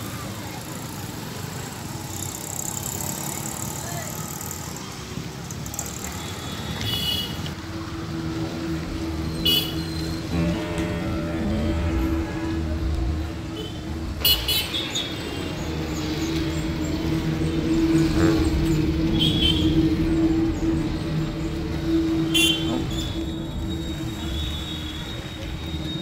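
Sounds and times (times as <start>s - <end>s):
vehicle engines running: 0.0s - 26.0s.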